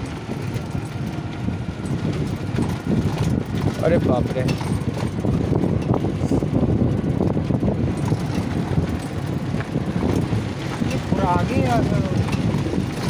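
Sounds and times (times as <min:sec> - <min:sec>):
rattles and knocks: 0:00.0 - 0:13.0
vehicle rumbling on dirt track: 0:00.0 - 0:13.0.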